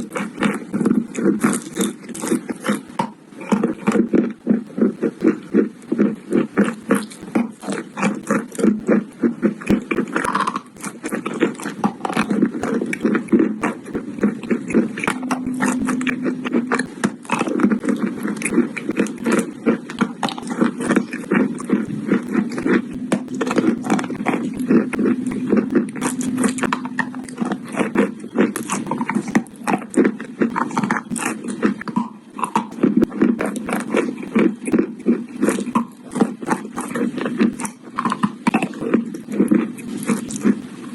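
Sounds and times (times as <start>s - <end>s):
chalk crunching and chewing: 0.0s - 40.9s.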